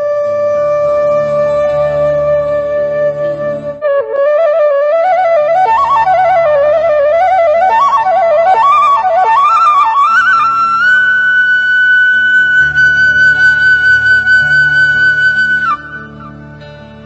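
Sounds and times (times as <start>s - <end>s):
bamboo flute melody: 0.0s - 16.8s.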